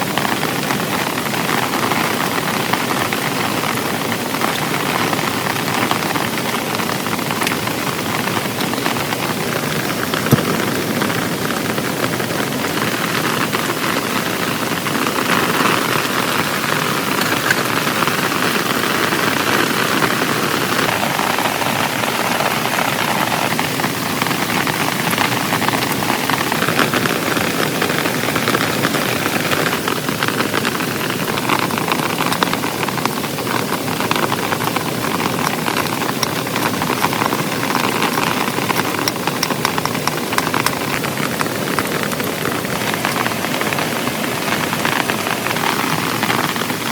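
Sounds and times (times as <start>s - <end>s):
heavy rain pattering: 0.0s - 46.9s.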